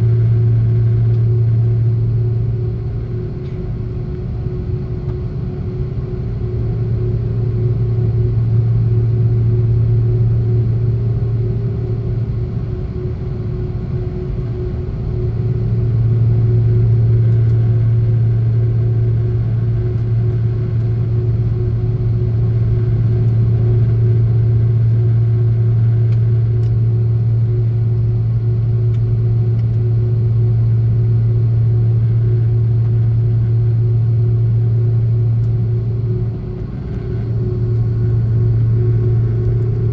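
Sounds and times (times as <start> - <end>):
airplane cabin rumble: 0.0 - 39.9
constant hum: 0.0 - 39.9.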